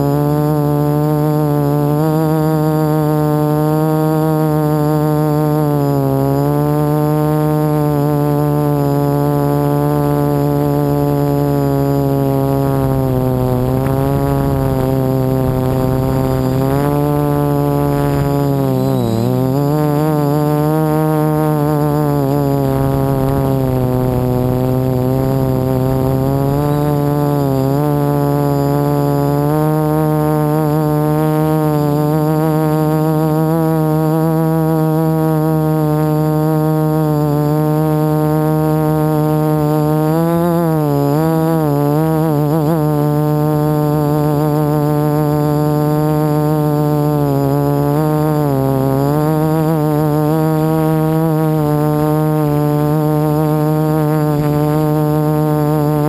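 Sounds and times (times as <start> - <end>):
quadcopter propellers buzzing: 0.0 - 56.0.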